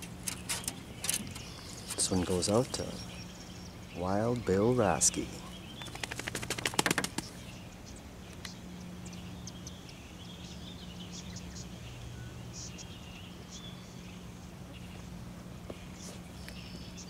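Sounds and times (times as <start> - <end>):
birds chirping faintly: 0.0 - 17.0
steady low hum: 0.0 - 17.0.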